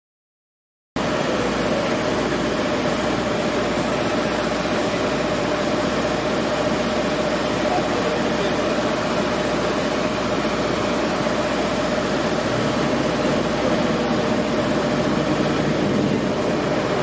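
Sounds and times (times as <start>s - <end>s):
constant traffic hum: 1.0s - 17.0s
vehicle engines running and idling: 1.0s - 17.0s.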